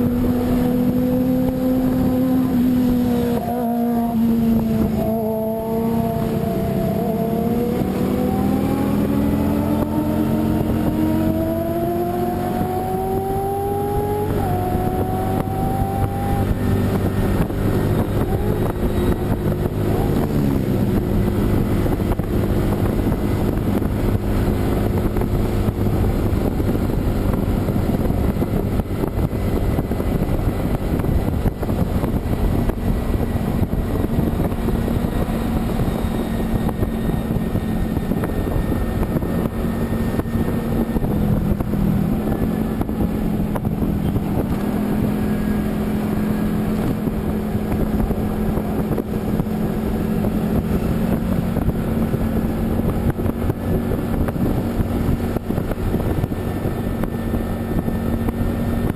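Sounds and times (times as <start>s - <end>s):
vehicle engine droning: 0.0s - 58.9s
wind noise on microphone: 0.0s - 58.9s.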